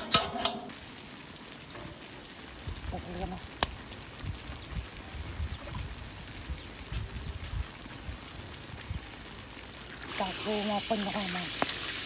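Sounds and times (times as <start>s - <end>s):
meat sizzling in sauce: 0.0s - 12.0s.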